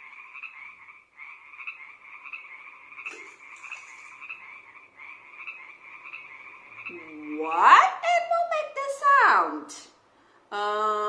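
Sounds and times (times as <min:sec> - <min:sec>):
frogs croaking: 0:00.0 - 0:09.2.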